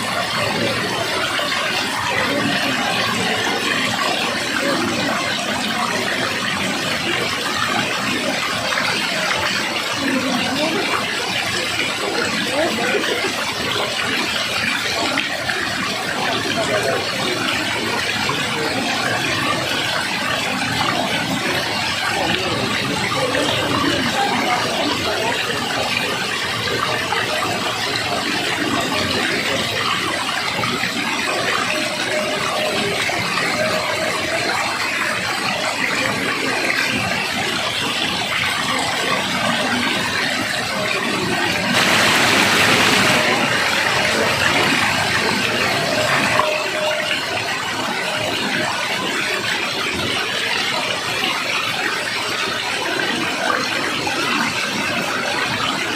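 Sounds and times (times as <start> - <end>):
water rushing: 0.0 - 55.9.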